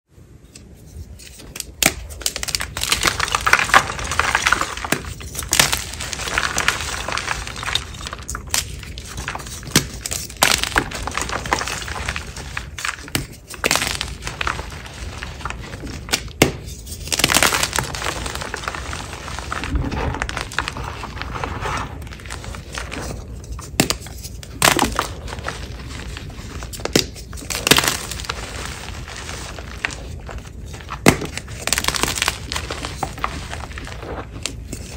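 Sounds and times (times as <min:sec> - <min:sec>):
chalk pieces cracking: 0:00.5 - 0:34.9.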